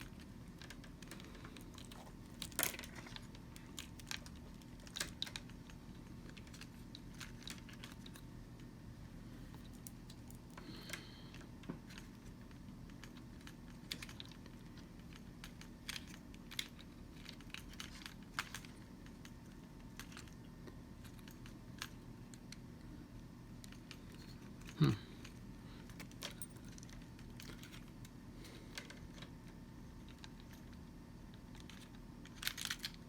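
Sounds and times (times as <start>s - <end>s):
faint low hum: 0.0s - 33.0s.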